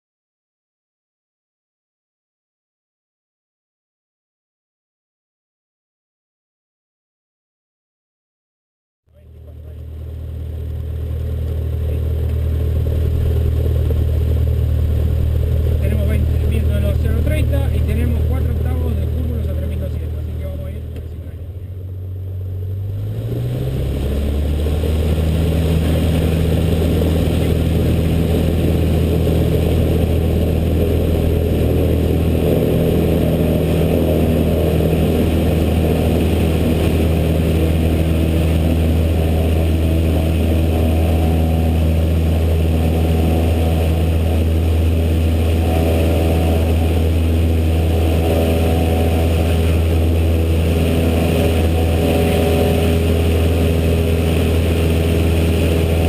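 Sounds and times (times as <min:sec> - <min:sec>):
light aircraft engine running: 0:09.1 - 0:56.0.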